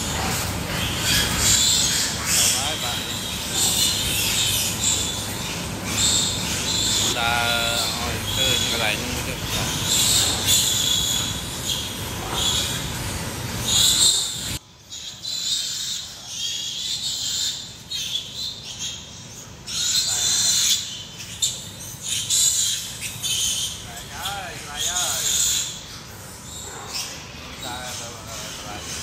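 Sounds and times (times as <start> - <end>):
piglets squealing: 0.0 - 29.0.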